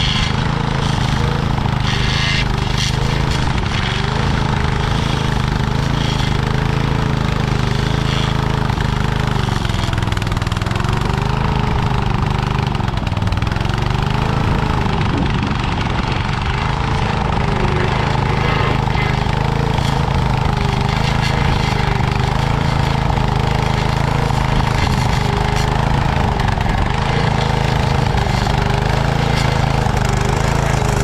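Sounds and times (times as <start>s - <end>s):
blade cutting soil: 0.0s - 31.0s
small gas engine at full throttle: 0.0s - 31.0s.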